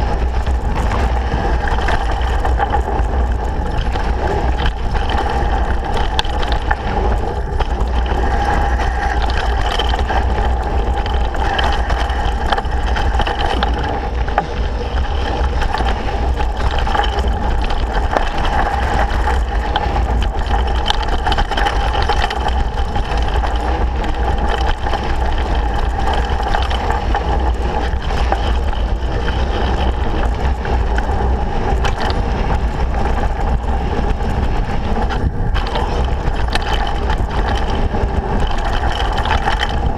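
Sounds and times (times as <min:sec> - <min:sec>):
bike rattling and knocking: 0:00.0 - 0:39.9
tyres rumbling over dirt: 0:00.0 - 0:39.9
wind buffeting microphone: 0:00.0 - 0:39.9.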